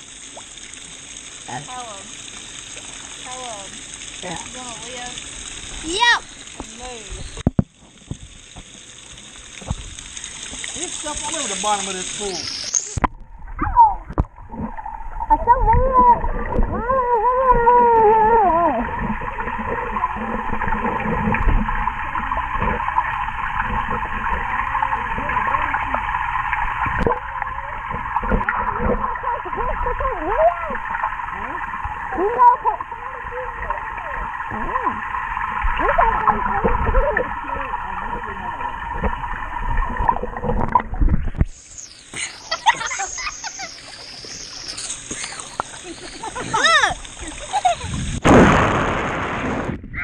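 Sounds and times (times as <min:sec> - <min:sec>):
muffled underwater churning water: 0:00.0 - 0:50.0.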